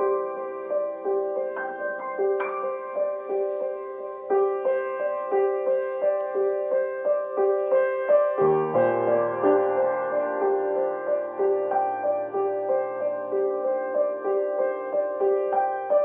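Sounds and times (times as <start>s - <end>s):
low piano bass notes: 0.0s - 16.0s
repeating piano notes: 0.0s - 16.0s.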